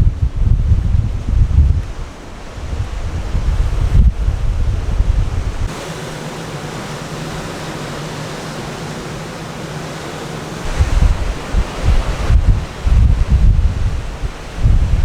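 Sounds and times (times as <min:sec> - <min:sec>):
sea rushing past ship: 0:00.0 - 0:15.0
wind buffeting microphone: 0:00.0 - 0:15.0.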